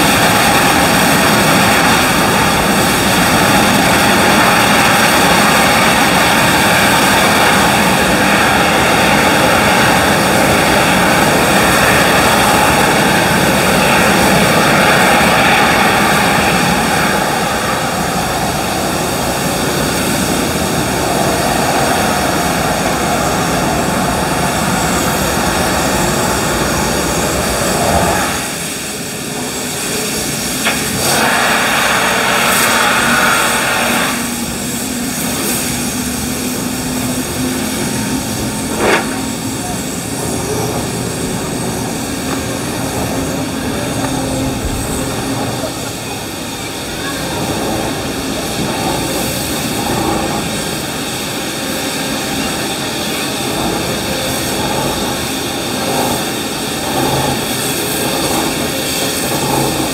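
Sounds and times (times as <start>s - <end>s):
locomotive venting steam: 0.0s - 59.9s.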